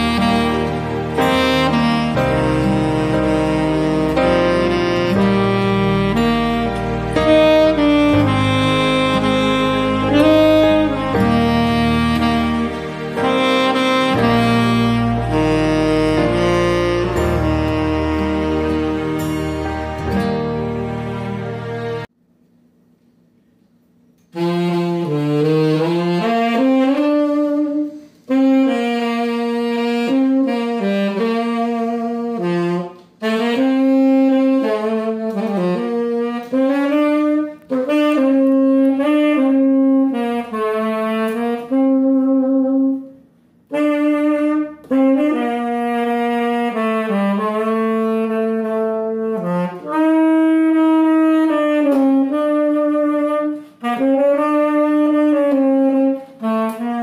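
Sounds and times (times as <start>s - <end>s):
tenor saxophone melody: 0.0s - 22.2s, 24.2s - 57.0s.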